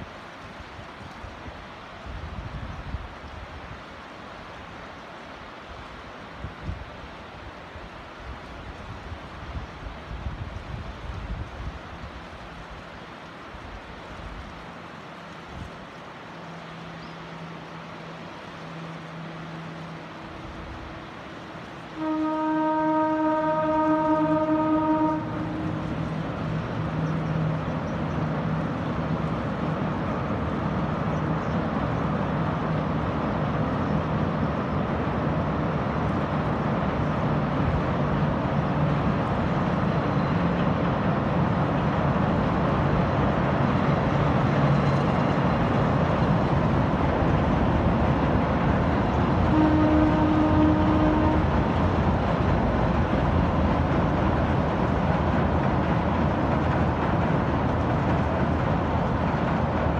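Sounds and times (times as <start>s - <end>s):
train running on bridge: 0.0s - 59.9s.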